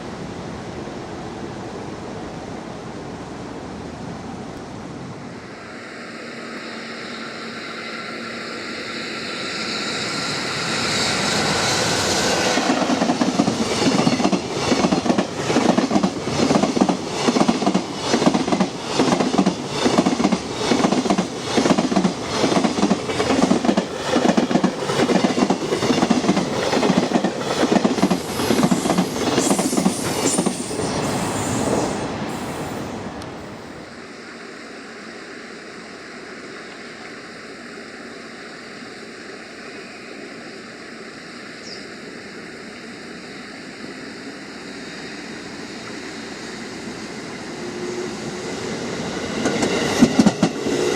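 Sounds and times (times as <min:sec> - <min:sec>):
electric locomotive passing: 0:00.0 - 0:50.9.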